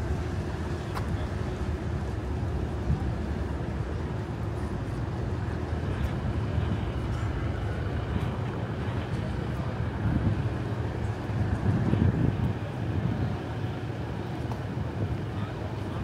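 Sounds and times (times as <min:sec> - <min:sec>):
boat engines rumbling: 0:00.0 - 0:16.0.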